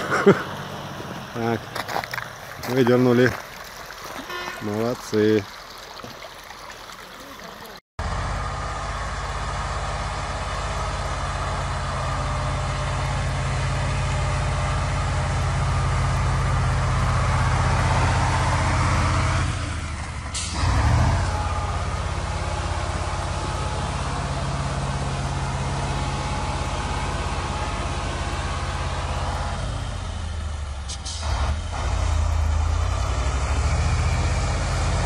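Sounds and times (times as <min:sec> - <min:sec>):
diesel truck engine running: 0:00.0 - 0:03.3, 0:08.0 - 0:35.0.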